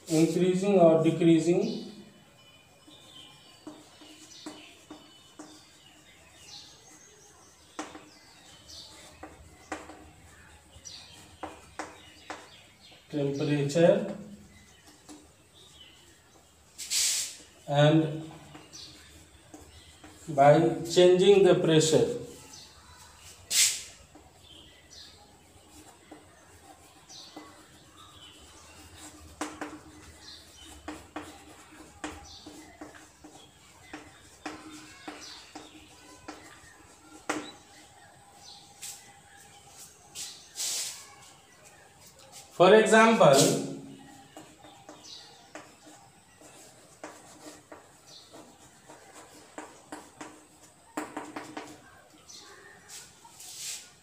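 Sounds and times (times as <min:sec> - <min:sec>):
high chalk chirps: 0:00.0 - 0:54.0
chalk tapping on chalkboard: 0:03.1 - 0:13.0, 0:14.0 - 0:54.0.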